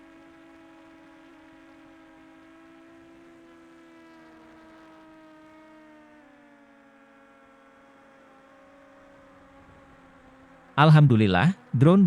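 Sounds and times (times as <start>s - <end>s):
drone propellers humming: 0.0s - 12.0s.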